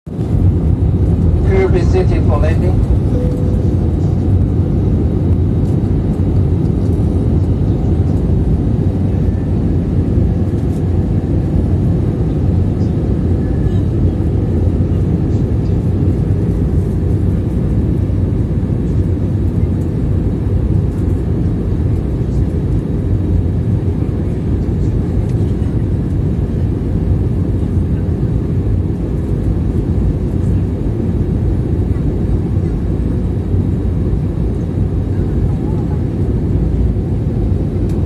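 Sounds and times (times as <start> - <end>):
airplane cabin rumble: 0.1 - 38.0.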